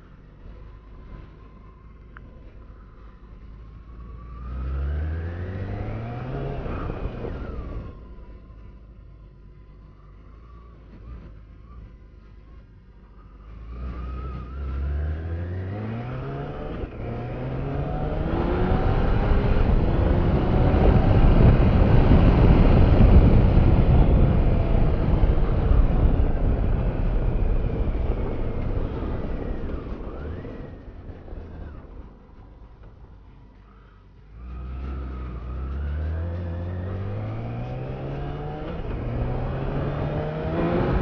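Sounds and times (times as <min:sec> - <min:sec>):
motorcycle engine accelerating: 0:00.0 - 0:08.9, 0:09.9 - 0:41.0.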